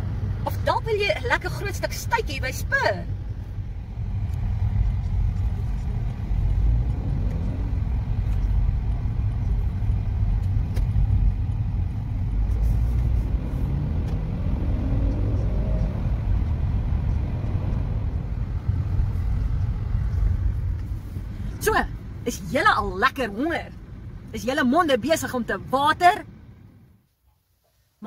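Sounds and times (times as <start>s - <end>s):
car cabin road and engine rumble: 0.0s - 28.0s.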